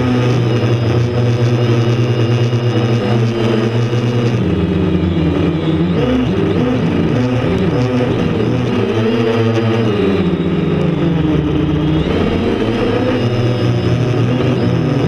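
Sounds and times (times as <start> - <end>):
drone motors whirring: 0.0 - 15.0.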